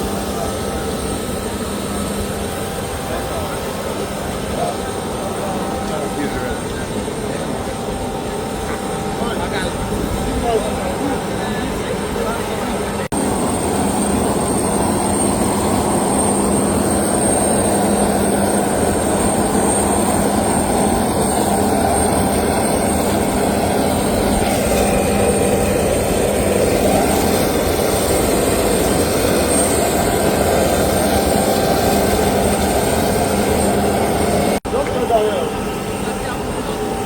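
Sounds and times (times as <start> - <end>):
aircraft engines roaring: 0.0 - 37.0.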